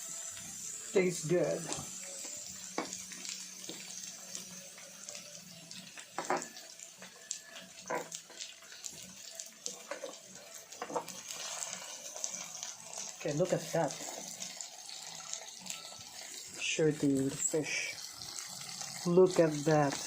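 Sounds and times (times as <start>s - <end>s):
pork sizzling on grill pan: 0.0s - 20.0s.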